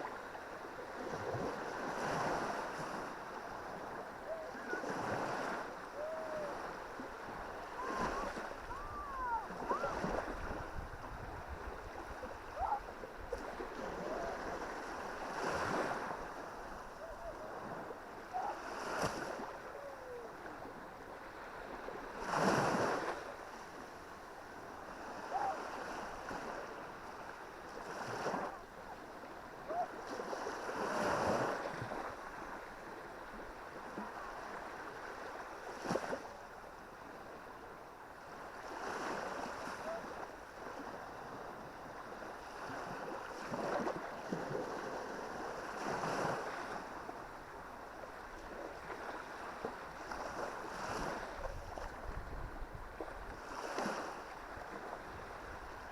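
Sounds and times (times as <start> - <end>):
waves breaking on beach: 0.0 - 55.9.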